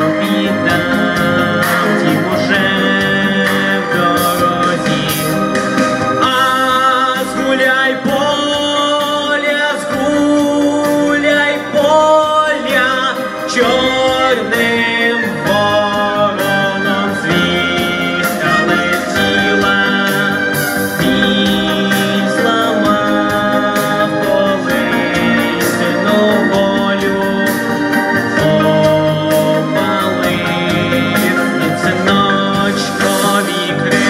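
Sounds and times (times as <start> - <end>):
boy singing into microphone: 0.0 - 34.0
instrumental accompaniment: 0.0 - 34.0.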